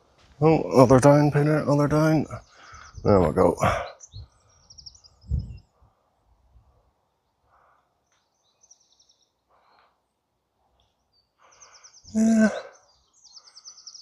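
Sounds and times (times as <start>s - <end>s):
songbirds trilling: 0.4s - 14.0s.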